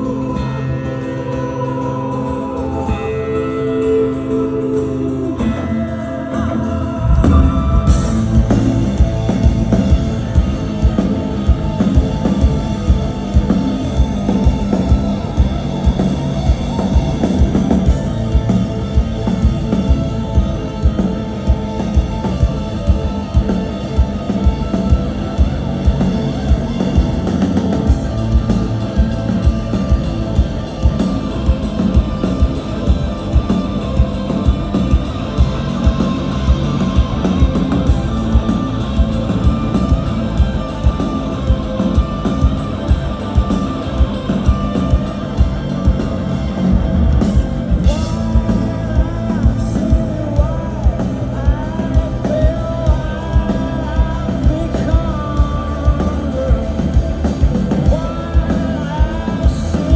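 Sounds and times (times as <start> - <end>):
live rock band playing: 0.0 - 59.9
drum kit beat: 6.9 - 59.9.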